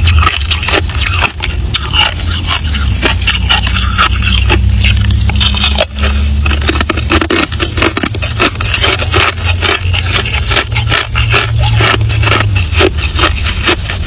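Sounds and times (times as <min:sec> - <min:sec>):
ice being chewed: 0:00.0 - 0:14.0
low hum: 0:00.0 - 0:14.0.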